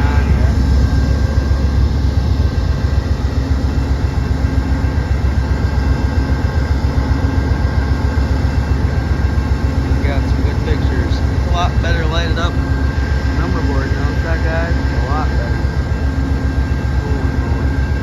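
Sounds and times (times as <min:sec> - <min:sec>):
diesel locomotive idling: 0:00.0 - 0:18.0.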